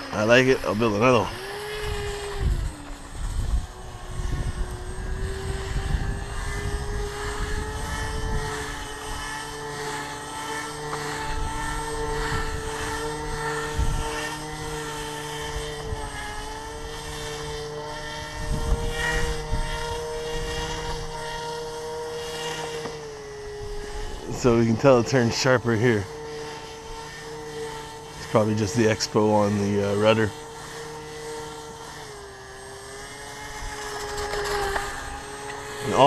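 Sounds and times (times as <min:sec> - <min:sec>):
electric motor and propeller whining: 0:00.0 - 0:36.0.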